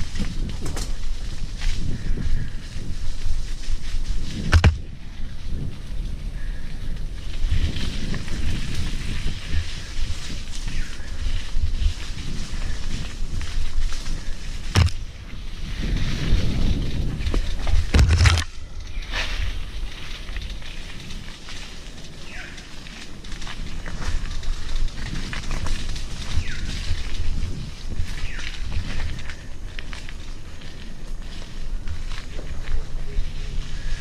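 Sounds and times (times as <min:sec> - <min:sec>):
bike rattling over bumps: 0:00.0 - 0:34.0
tyres crunching over leaves: 0:00.0 - 0:34.0
wind rumble on microphone: 0:00.0 - 0:34.0.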